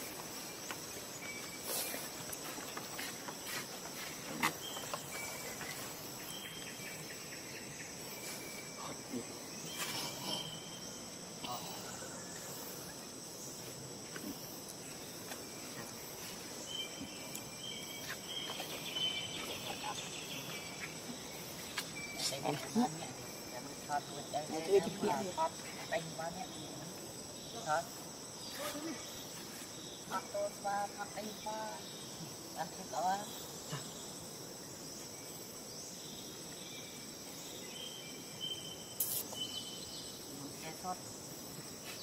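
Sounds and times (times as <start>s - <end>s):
insects droning: 0.0s - 42.0s
steady hiss: 0.0s - 42.0s.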